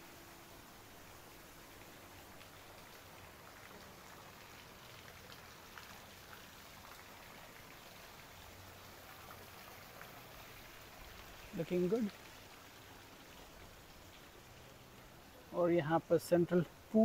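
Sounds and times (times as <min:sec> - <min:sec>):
falling water patter: 0:00.0 - 0:17.0.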